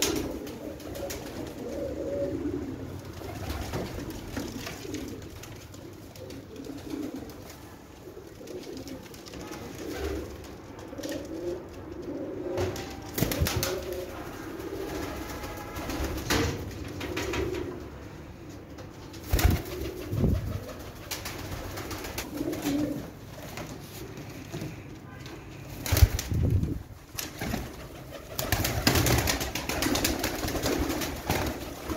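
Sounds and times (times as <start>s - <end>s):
pigeons cooing: 0.0s - 18.5s, 19.3s - 24.9s, 25.7s - 31.9s.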